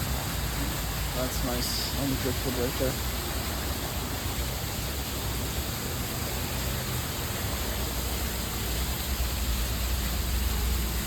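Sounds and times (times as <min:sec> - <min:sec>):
water feature rushing: 0:00.0 - 0:11.0.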